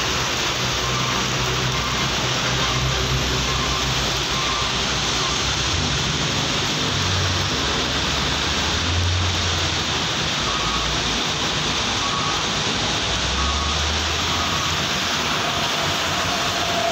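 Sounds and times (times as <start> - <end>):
rain hiss on wet road: 0.0 - 16.9
truck engine rumble: 0.0 - 16.9.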